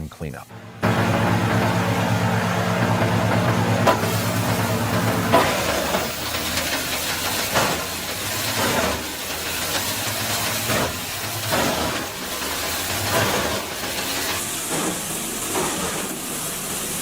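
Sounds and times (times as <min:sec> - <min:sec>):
wood chipper shredding branches: 0:00.5 - 0:17.0.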